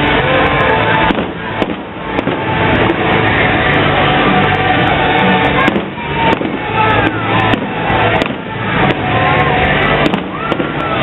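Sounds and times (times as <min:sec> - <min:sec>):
music playing: 0:00.0 - 0:11.0
steady rumble: 0:00.0 - 0:11.0
fireworks bangs: 0:00.1 - 0:11.0.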